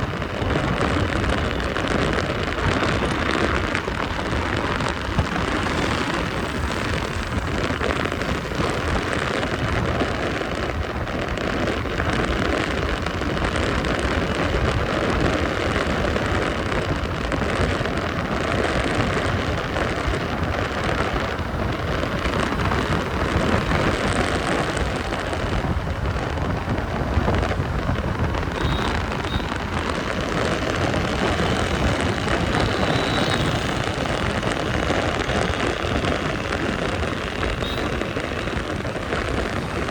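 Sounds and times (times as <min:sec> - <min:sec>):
hiss of rain and wet road: 0:00.0 - 0:39.9.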